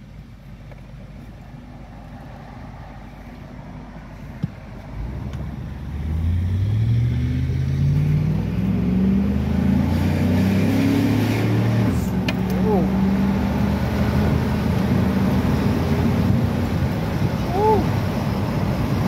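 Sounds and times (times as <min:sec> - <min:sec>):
car engine accelerating: 0:01.7 - 0:19.0.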